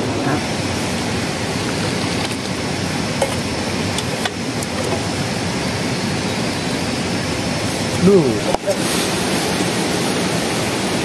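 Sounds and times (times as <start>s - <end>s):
rushing outdoor noise: 0.0s - 11.0s.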